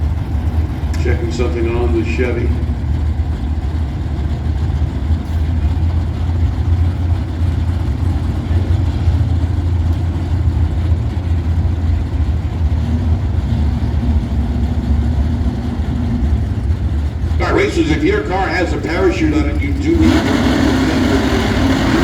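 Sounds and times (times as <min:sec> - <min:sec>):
car engines idling: 0:00.0 - 0:22.0.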